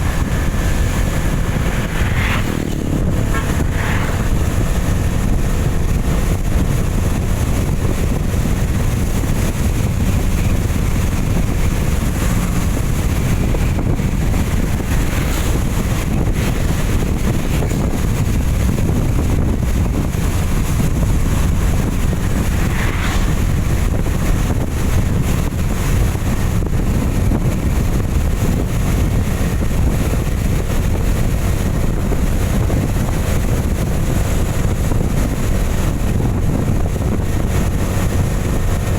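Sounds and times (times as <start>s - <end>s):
vehicle on wet road: 0.0s - 38.9s
wind buffeting microphone: 0.0s - 38.9s.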